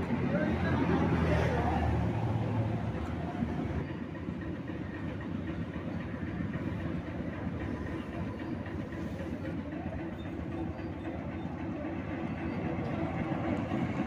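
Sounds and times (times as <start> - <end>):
motorcycle engine chugging: 0.0 - 14.0.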